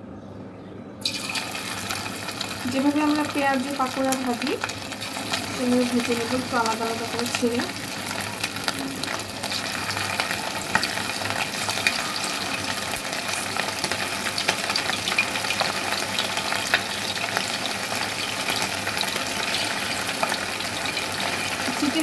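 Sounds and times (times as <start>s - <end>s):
chicken frying in oil: 1.0s - 22.0s.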